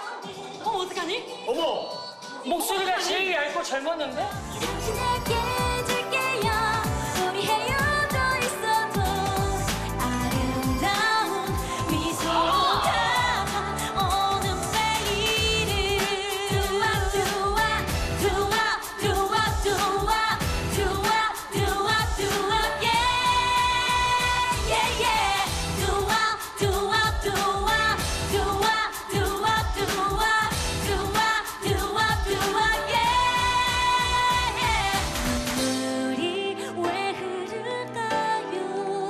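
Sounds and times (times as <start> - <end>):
women singing upbeat pop song: 0.0 - 39.0
backing track: 4.1 - 38.4.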